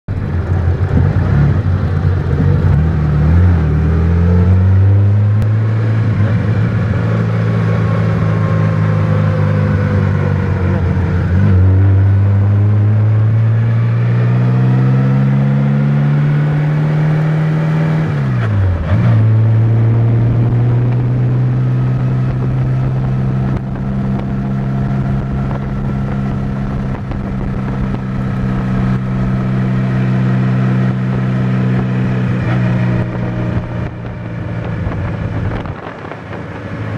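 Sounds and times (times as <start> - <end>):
car engine through gears: 0.1 - 36.9
wind and road noise: 0.1 - 36.9.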